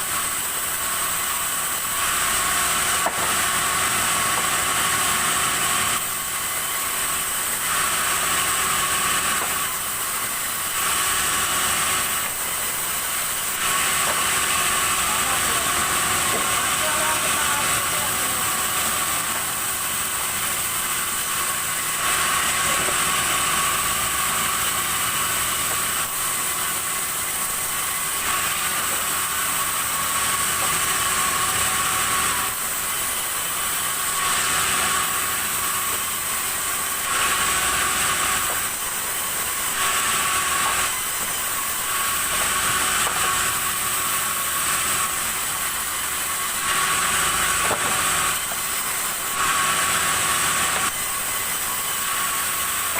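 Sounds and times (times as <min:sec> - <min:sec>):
sawmill saw cutting timber: 0:00.0 - 0:52.9.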